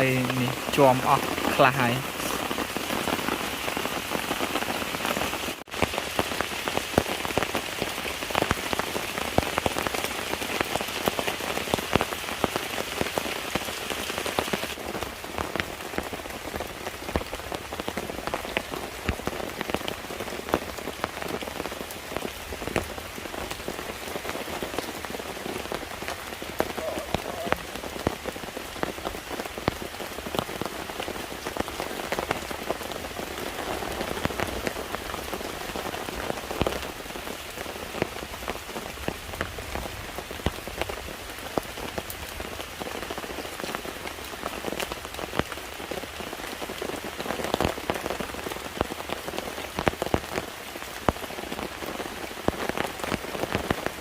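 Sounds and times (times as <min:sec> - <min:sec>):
raindrops tapping: 0:00.0 - 0:54.0
steady rain falling: 0:00.0 - 0:54.0.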